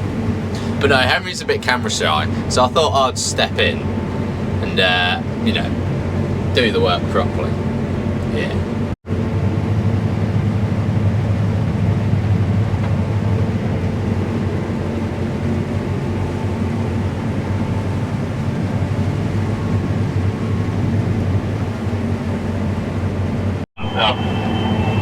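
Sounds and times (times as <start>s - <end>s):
combine harvester hum: 0.0s - 25.0s.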